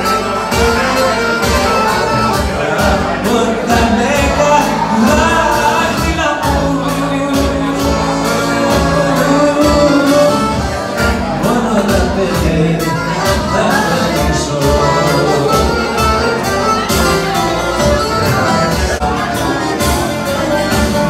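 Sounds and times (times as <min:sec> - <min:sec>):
live band with singing: 0:00.0 - 0:21.0.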